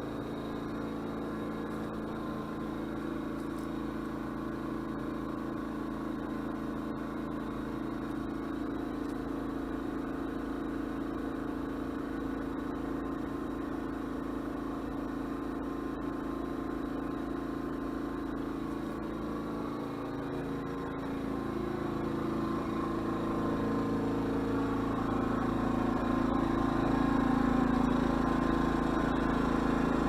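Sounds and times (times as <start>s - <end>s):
generator engine humming: 0.0s - 30.0s.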